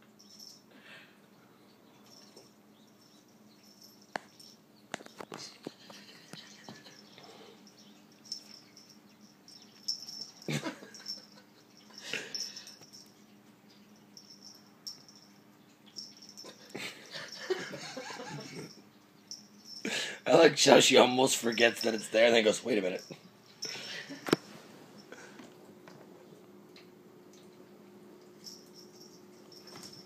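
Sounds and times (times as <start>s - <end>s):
collar tag jingling: 0.1s - 0.7s, 1.9s - 24.4s, 28.2s - 30.0s.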